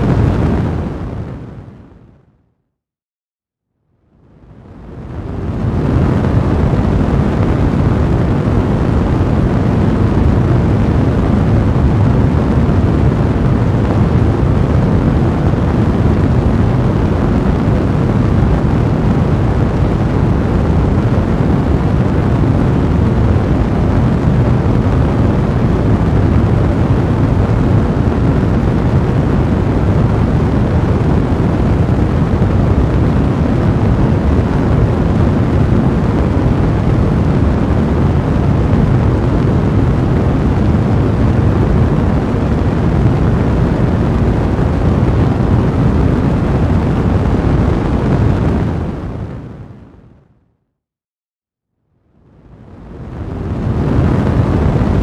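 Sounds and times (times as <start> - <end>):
fire blazing in fireplace: 4.4 - 49.8, 52.7 - 55.0.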